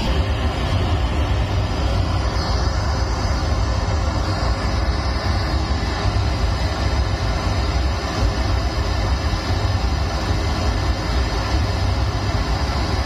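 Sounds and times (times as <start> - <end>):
pink noise through speakers: 0.0 - 13.0.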